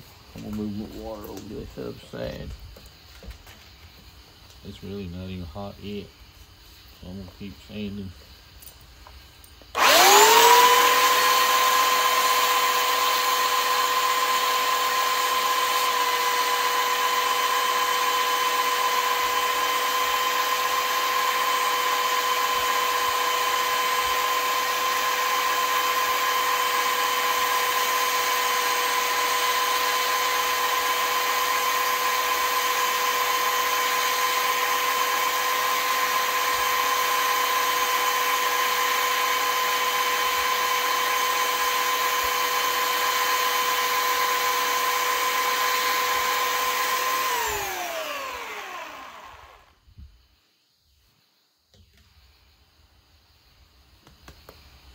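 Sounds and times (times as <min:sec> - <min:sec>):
belt sander whine: 0:00.0 - 0:06.4, 0:09.0 - 0:50.1.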